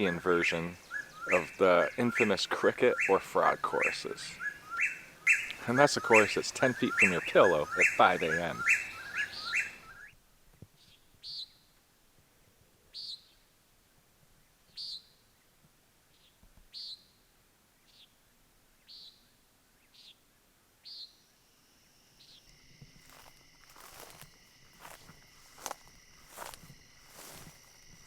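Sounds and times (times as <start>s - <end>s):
bird singing repeated night call: 0.0s - 11.8s, 12.8s - 13.6s, 14.4s - 28.0s.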